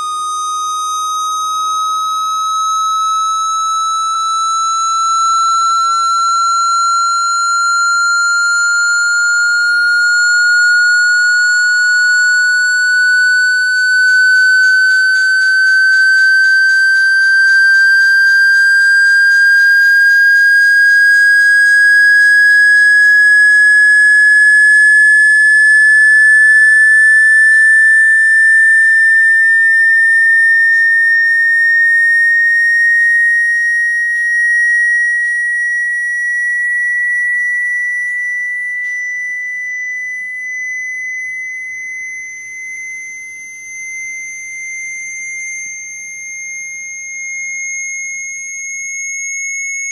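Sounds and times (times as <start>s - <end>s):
rising sine-wave tone: 0.0s - 49.9s.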